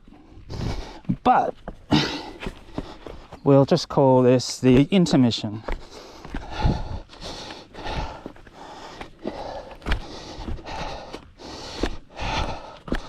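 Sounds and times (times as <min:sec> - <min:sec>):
runner breathing hard: 0:00.0 - 0:03.4, 0:05.6 - 0:13.0.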